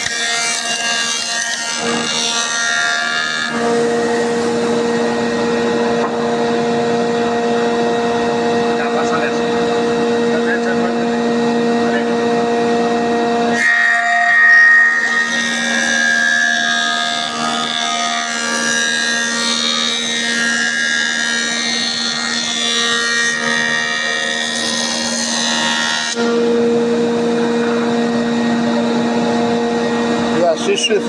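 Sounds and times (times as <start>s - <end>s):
machine humming: 0.0s - 31.0s
planer cutting wooden board: 0.0s - 31.0s.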